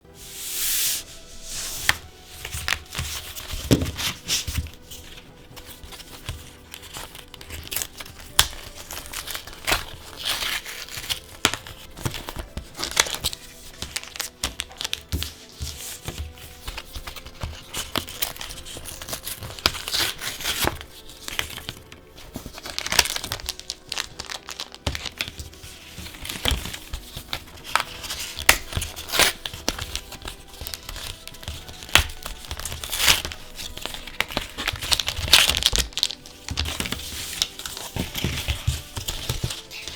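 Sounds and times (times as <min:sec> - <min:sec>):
plastic and foil wrapping crinkling: 0:00.2 - 0:39.9.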